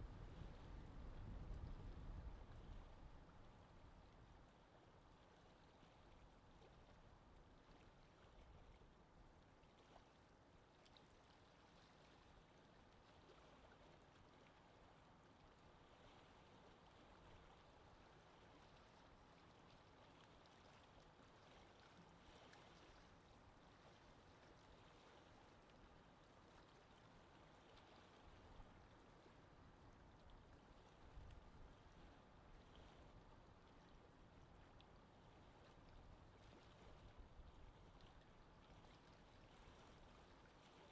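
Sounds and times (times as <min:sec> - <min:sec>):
faint steady wind: 0:00.0 - 0:40.9.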